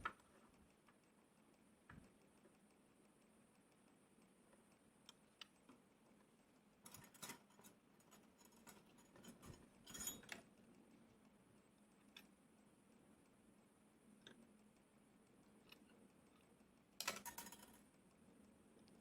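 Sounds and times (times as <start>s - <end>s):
faint clicks and handling noises: 0.0s - 19.0s.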